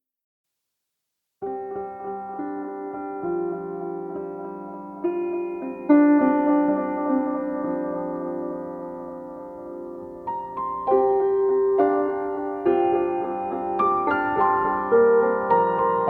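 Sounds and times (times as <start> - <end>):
slow soft piano music: 1.4 - 16.0.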